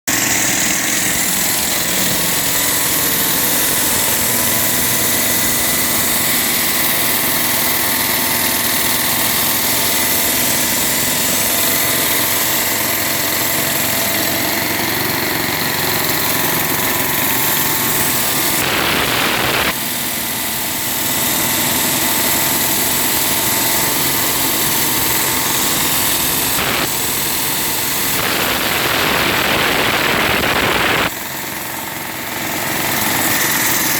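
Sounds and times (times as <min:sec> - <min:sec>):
concrete-cutting saw running: 0:00.0 - 0:33.9.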